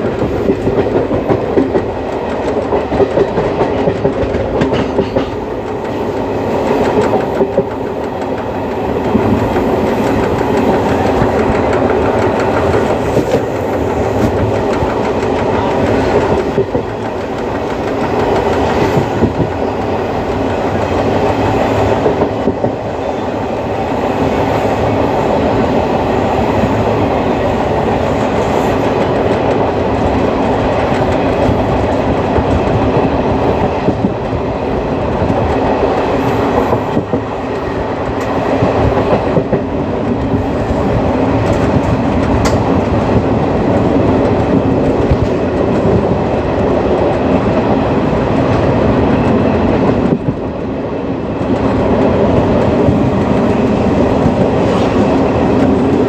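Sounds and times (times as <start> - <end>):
clickety-clack of rail joints: 0.0 - 56.0
train wheels rumbling: 0.0 - 56.0.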